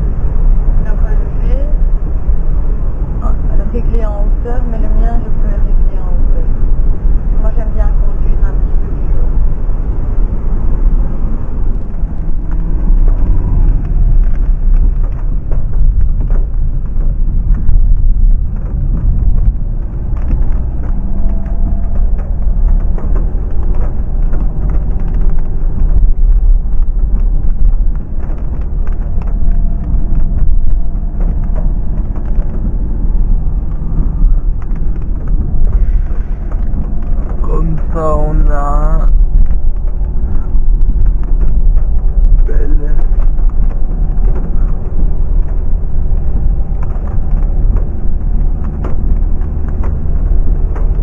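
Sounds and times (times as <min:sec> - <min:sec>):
car engine rumble: 0:00.0 - 0:51.0
tyres on wet road: 0:00.0 - 0:51.0.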